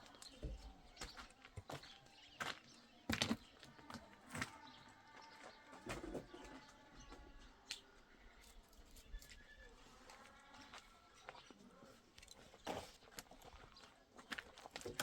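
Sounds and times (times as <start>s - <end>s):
birds calling faintly: 0.0s - 15.0s.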